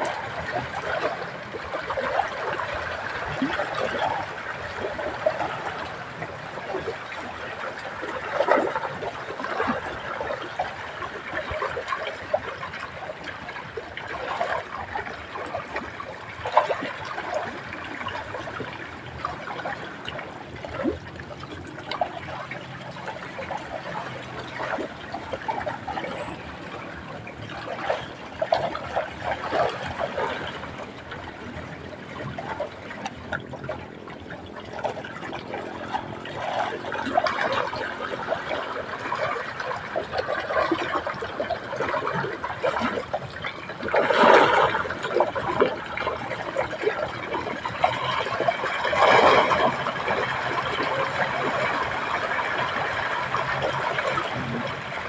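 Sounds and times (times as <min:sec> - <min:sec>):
water splashing and trickling: 0:00.0 - 0:55.0.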